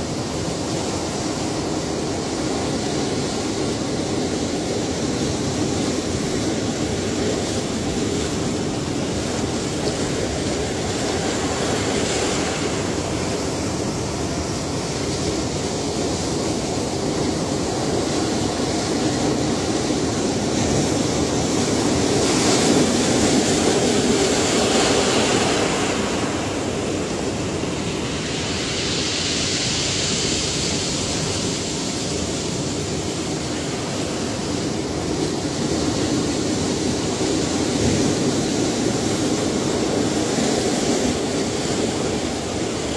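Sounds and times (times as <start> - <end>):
ocean surf washing: 0.0 - 42.9.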